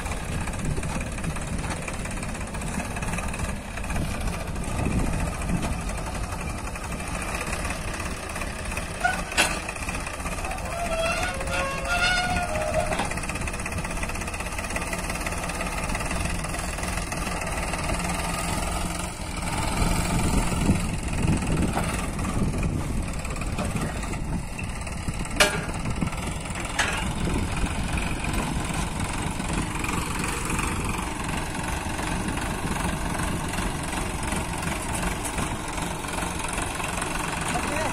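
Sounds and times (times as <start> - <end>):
tractor diesel engine under load: 0.0 - 37.9.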